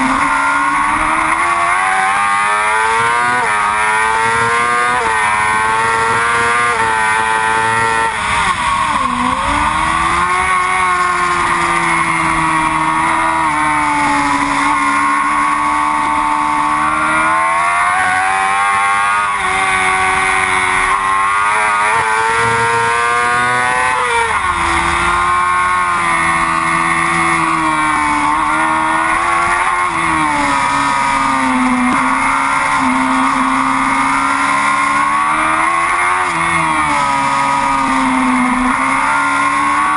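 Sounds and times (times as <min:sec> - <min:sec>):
motorcycle engine racing at high revs: 0:00.0 - 0:39.9.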